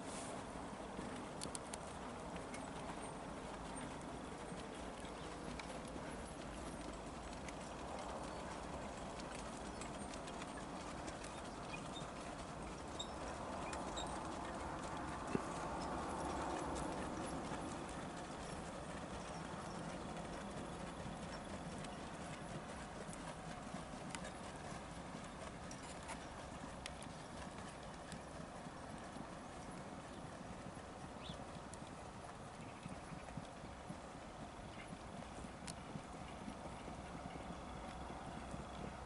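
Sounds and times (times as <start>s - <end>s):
trotting hoofbeats on dirt: 0.0s - 39.0s.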